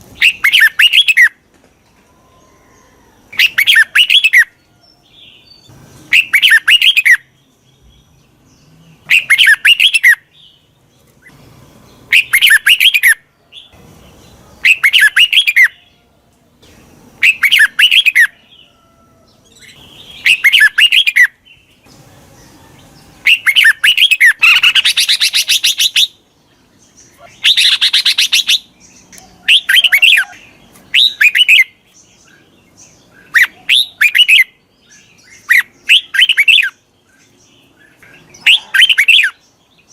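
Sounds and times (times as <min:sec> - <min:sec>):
bulbul chirping song: 0:00.0 - 0:01.4, 0:03.1 - 0:39.9
harsh bird calls: 0:00.0 - 0:01.4, 0:02.0 - 0:39.9.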